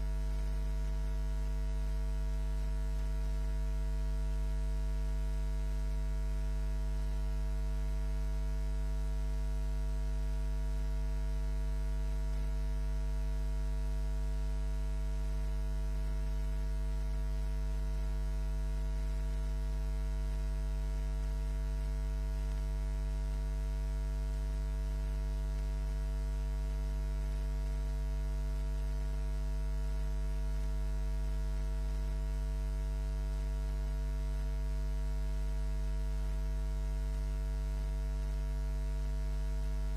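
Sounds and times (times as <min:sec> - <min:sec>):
electrical mains hum: 0:00.0 - 0:39.9
faint buzz: 0:00.0 - 0:39.9.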